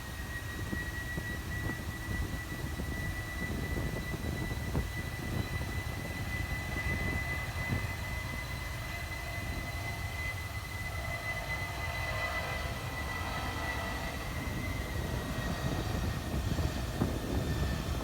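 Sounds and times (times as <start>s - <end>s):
jet engines at takeoff power: 0.0s - 18.0s.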